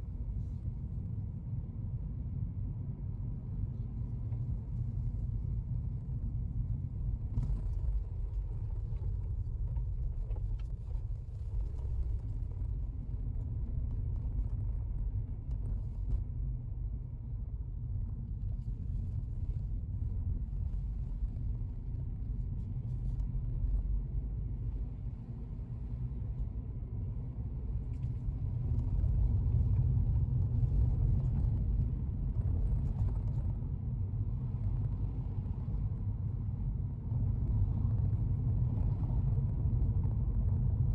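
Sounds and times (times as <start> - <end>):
car engine and road noise rumble: 0.0 - 40.9.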